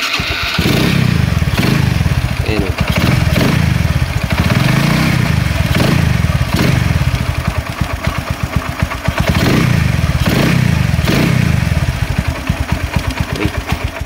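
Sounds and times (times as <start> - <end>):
small motorcycle engine idling: 0.0 - 14.0.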